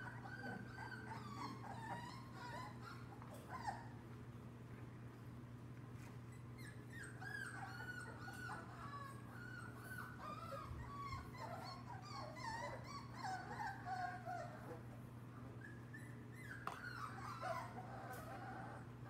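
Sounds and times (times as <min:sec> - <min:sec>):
puppies whimpering and crying: 0:00.0 - 0:04.0, 0:06.3 - 0:19.0.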